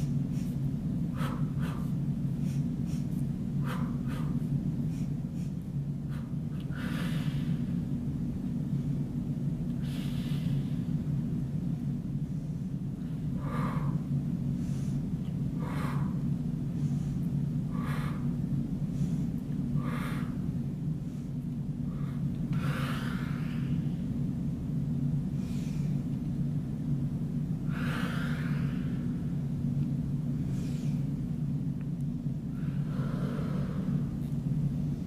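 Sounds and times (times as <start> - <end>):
low hum: 0.0 - 35.0
woman breathing: 0.0 - 35.0.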